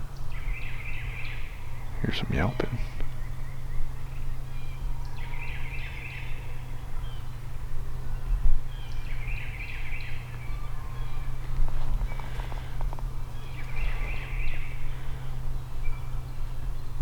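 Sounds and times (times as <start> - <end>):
distant wild turkey calling: 0.0 - 16.7
steady low hum: 0.0 - 17.0.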